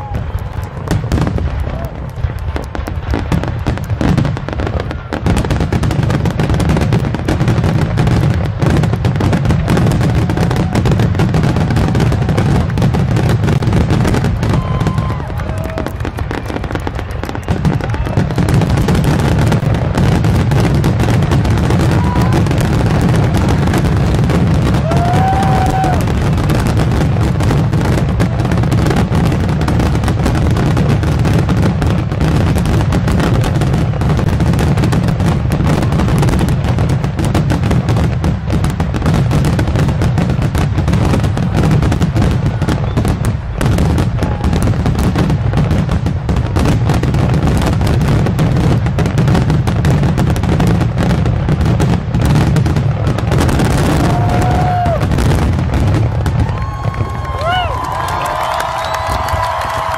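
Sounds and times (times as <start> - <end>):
fireworks booming and cracking: 0.0 - 59.9.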